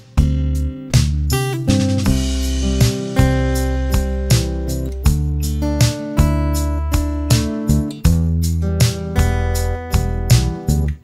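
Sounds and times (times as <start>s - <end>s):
deep bass line: 0.0s - 11.0s
plucked guitar-like notes: 0.0s - 11.0s.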